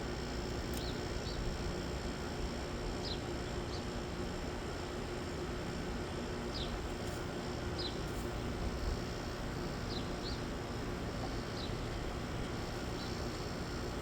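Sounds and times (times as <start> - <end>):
air conditioner unit humming: 0.0 - 14.0.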